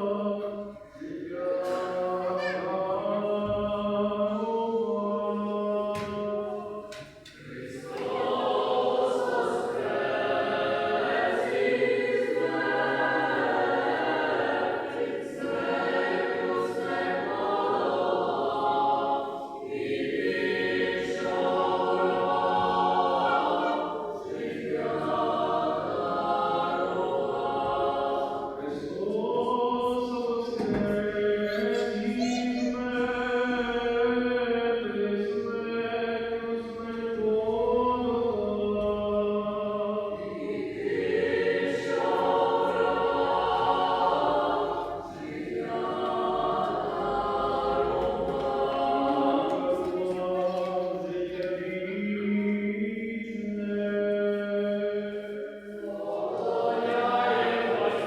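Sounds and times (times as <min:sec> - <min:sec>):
choir singing a cappella chant: 0:00.0 - 0:58.0.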